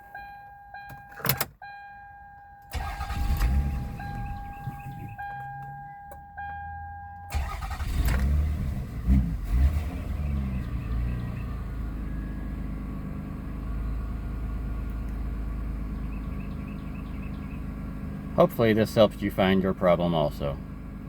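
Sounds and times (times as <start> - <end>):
car engine cranking and starting: 0.0 - 21.0.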